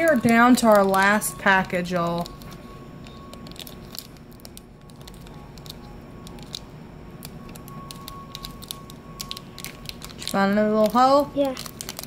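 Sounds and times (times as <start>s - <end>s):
foil packet crinkling: 0.0s - 12.0s.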